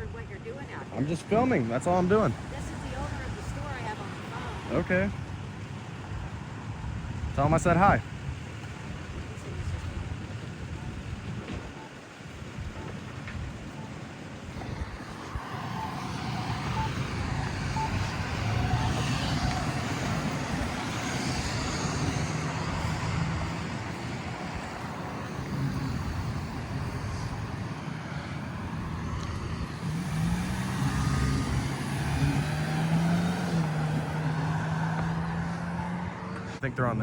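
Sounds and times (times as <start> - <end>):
engine humming close: 0.0 - 37.0
road traffic going by: 0.0 - 37.0.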